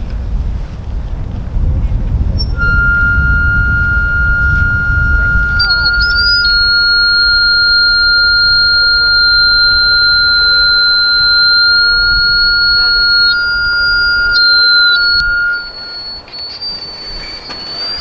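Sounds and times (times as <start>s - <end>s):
low rumble: 0.0s - 16.2s
pure electronic sine tone: 2.3s - 18.0s
thin higher electronic tone: 2.4s - 18.0s.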